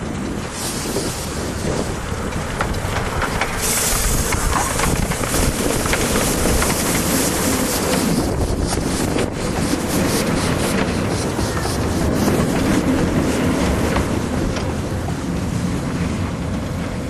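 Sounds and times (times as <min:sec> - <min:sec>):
miniature train running on track: 0:00.0 - 0:17.0
wind on the microphone: 0:00.4 - 0:14.8.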